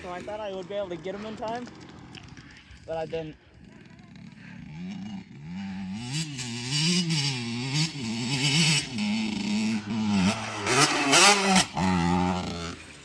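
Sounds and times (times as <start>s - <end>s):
dirt bike engine revving: 0.0s - 2.8s, 3.4s - 13.0s.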